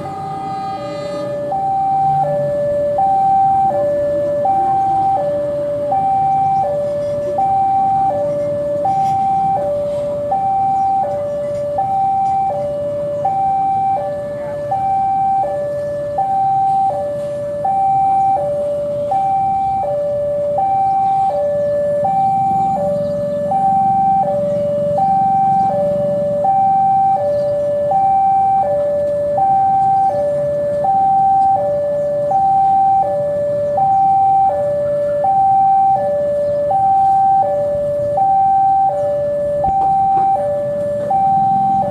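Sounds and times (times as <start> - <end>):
level crossing warning alarm: 0.0 - 41.9.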